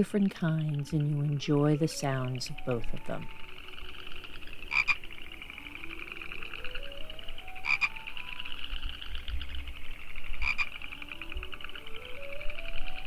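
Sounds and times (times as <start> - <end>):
low frog notes stepping up: 0.0 - 13.0
frog high pulsed trill: 0.7 - 13.0.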